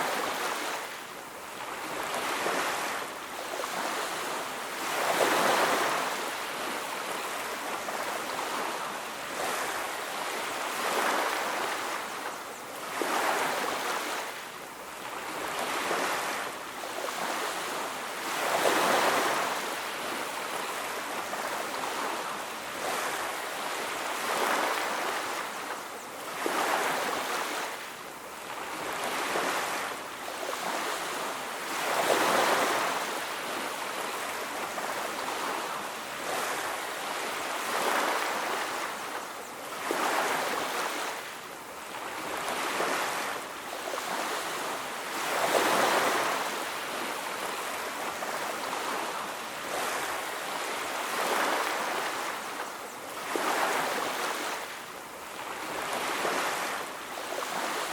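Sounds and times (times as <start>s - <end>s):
surf washing onto a beach: 0.0s - 57.9s.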